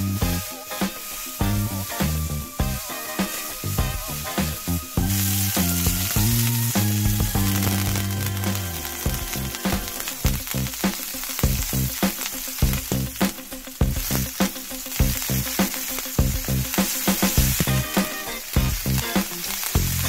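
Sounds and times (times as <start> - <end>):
background music with beat: 0.0 - 20.0
steak sizzling in a pan: 0.0 - 20.0.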